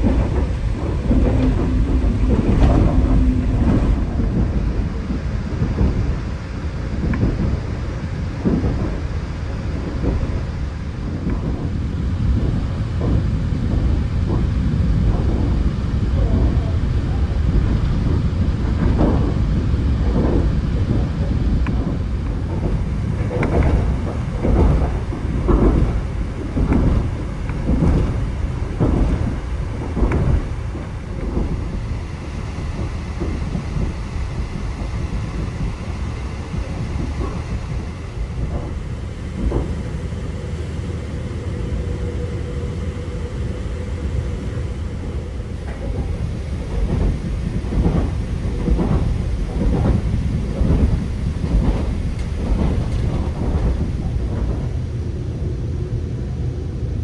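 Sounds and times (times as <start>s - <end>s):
wheels knocking on track: 0.0s - 43.4s, 44.2s - 55.0s
train coach rumble: 0.0s - 57.0s.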